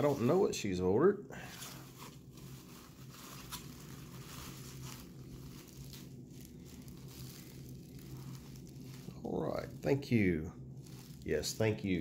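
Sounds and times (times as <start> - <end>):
bubble wrap crinkling: 0.0 - 0.6, 1.4 - 12.0
faint low hum: 0.0 - 12.0.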